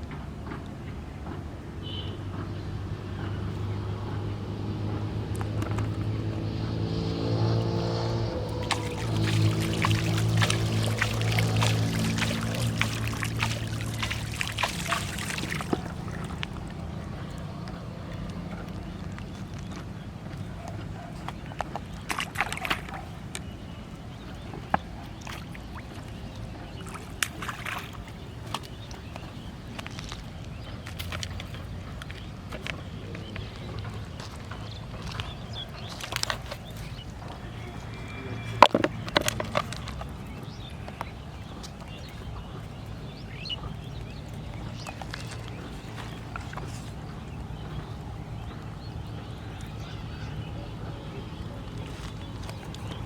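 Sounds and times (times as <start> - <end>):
water sloshing and splashing: 4.8 - 53.0.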